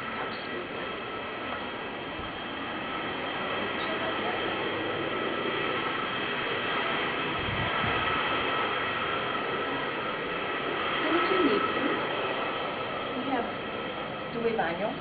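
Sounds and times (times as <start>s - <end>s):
faint high whines: 0.0s - 15.0s.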